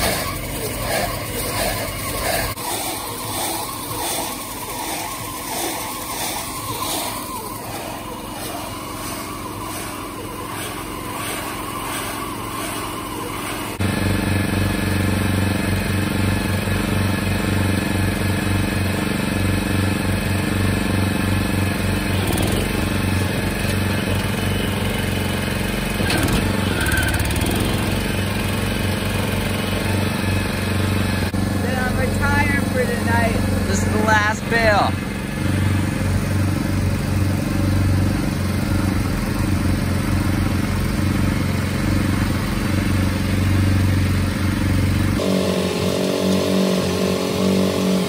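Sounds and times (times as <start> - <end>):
small gasoline engine running: 0.0 - 48.0.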